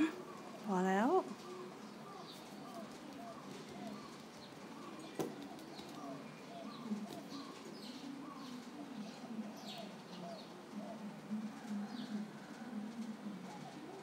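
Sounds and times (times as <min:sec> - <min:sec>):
birds chirping: 0:00.0 - 0:14.0
birds cooing: 0:00.0 - 0:14.0.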